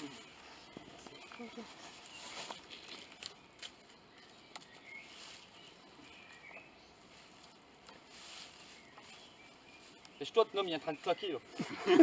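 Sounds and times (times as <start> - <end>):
faint woodland ambience: 0.0 - 12.0.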